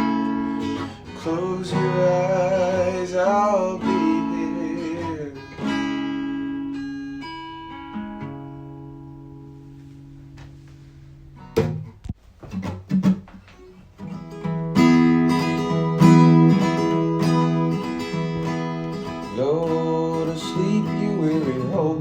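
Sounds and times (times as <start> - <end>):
acoustic guitar chords strummed: 0.0 - 22.0.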